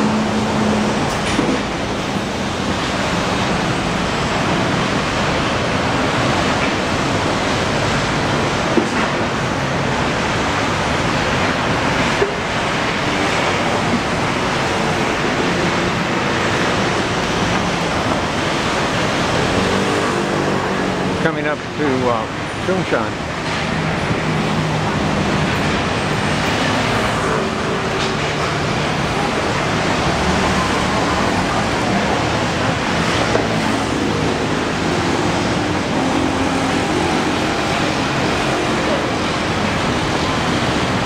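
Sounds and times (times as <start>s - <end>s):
heavy street traffic rush: 0.0s - 41.0s.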